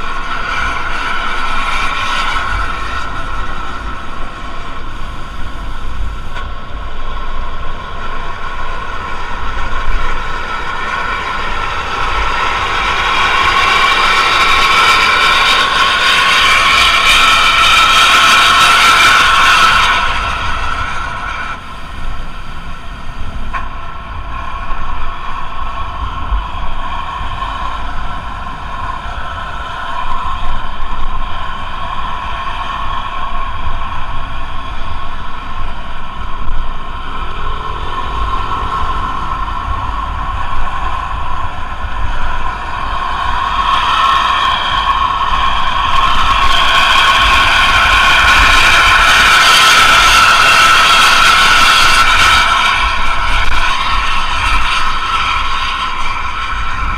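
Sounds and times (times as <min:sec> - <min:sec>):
bus engine rumble: 0:00.0 - 0:56.9
high whining tones: 0:00.0 - 0:56.9.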